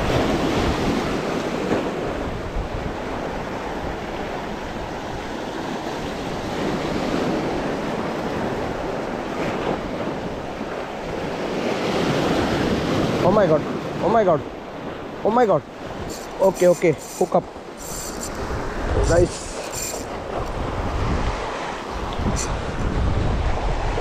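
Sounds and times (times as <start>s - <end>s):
wind buffeting microphone: 0.0s - 16.4s, 17.0s - 24.0s.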